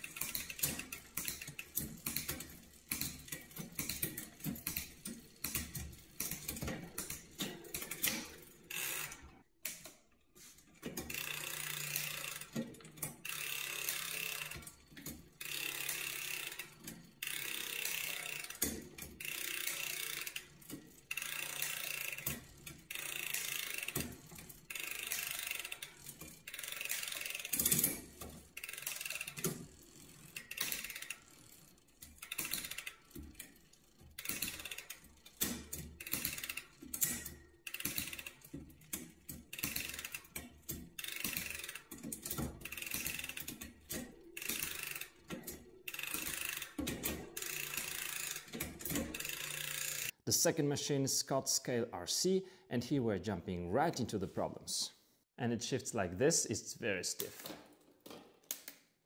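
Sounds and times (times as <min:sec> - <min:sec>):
bike chain running over cogs: 0:00.0 - 0:09.3, 0:11.0 - 0:50.1.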